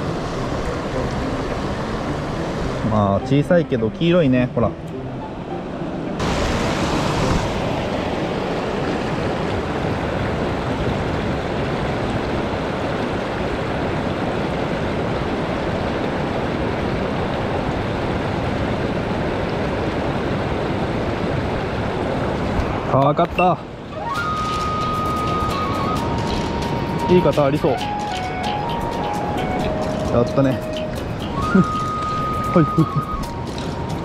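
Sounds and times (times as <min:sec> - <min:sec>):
river current rushing: 0:00.0 - 0:34.0.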